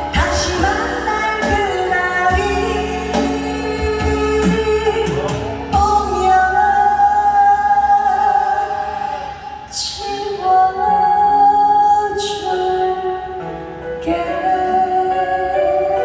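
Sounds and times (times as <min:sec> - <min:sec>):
person singing long notes: 0:00.0 - 0:13.4
musical accompaniment: 0:00.0 - 0:16.0.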